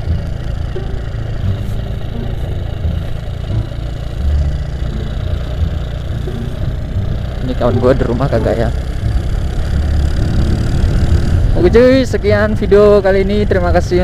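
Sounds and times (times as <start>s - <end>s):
low uneven rumble: 0.0s - 14.0s
motorcycle engine running: 0.0s - 14.0s.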